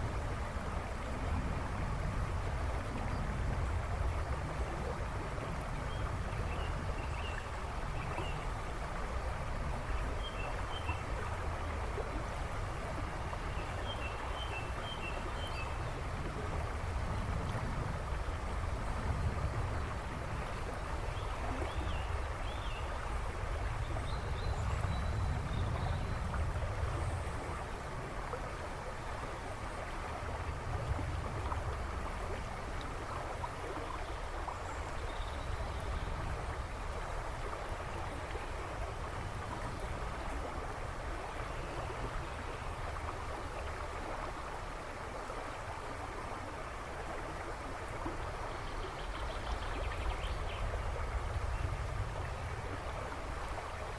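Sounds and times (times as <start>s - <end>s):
river rushing and babbling: 0.0s - 53.9s.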